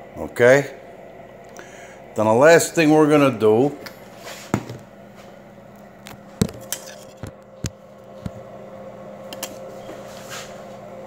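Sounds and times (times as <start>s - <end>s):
pizza oven humming: 0.0s - 11.0s.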